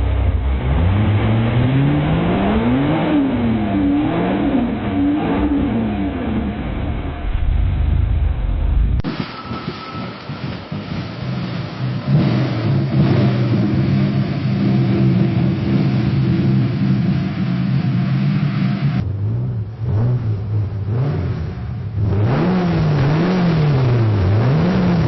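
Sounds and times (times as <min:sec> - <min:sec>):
car engine revving in blips: 0:00.0 - 0:25.0
car engine running steadily: 0:00.0 - 0:25.0.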